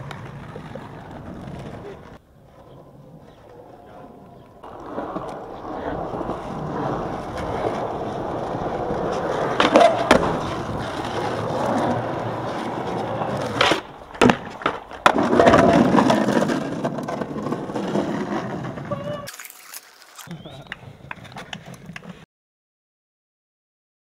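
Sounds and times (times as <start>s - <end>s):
skateboard clacking on concrete: 0.0s - 19.3s, 20.3s - 22.2s
skateboard wheels rolling: 0.0s - 22.2s.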